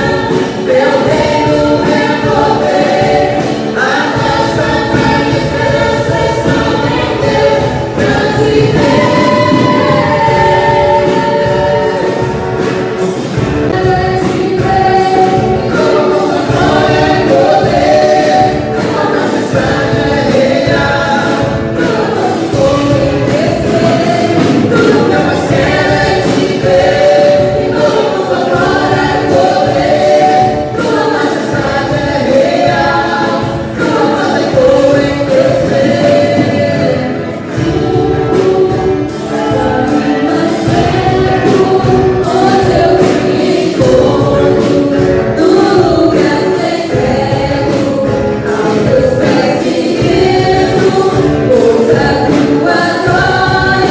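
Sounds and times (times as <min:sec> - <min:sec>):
choir singing gospel song: 0:00.0 - 0:53.9.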